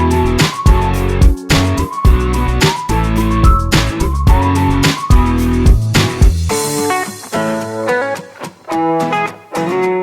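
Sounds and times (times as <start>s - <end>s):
music with beat and bass: 0.0s - 10.0s
sliding lead melody: 0.0s - 10.0s.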